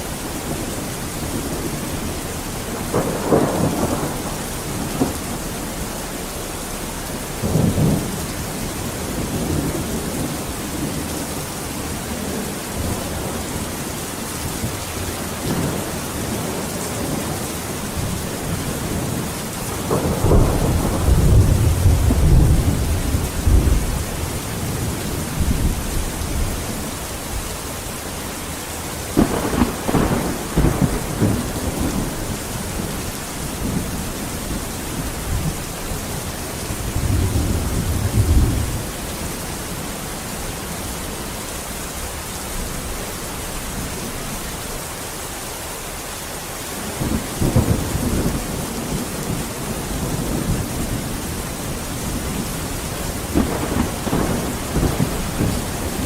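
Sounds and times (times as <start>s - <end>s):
heavy rain: 0.0s - 56.0s
rolling thunder: 0.4s - 27.9s, 29.0s - 40.9s, 46.8s - 56.0s.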